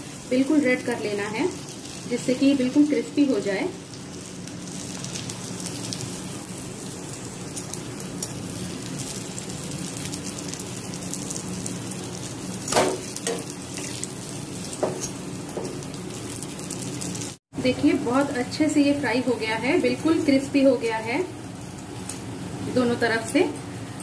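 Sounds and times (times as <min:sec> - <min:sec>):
oil sizzling and crackling: 0:00.0 - 0:24.0.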